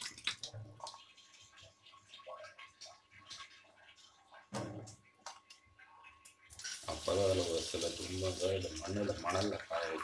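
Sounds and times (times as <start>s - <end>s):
water splashing into sink: 0.0s - 10.0s.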